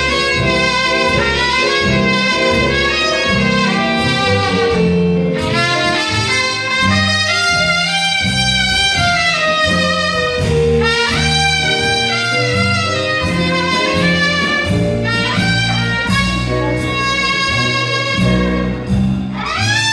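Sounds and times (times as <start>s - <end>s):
jazz band playing: 0.0s - 19.9s
trumpet lead line: 0.0s - 19.9s.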